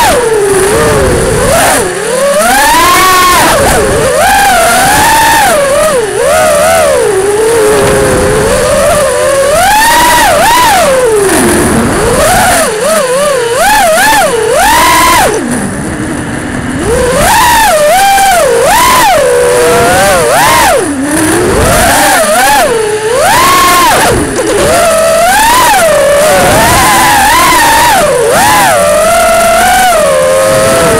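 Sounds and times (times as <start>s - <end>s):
drone motors and propellers whining: 0.0s - 30.9s.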